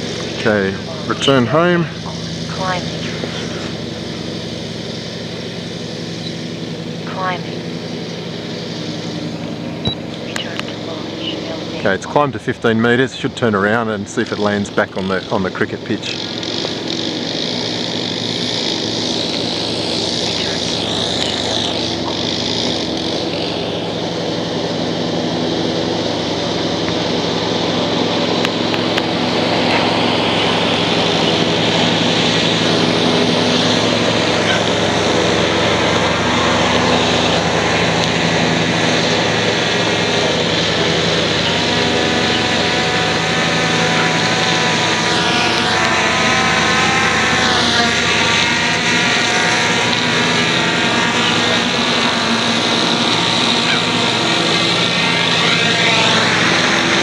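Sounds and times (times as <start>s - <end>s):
quadcopter motors humming: 0.0s - 57.0s.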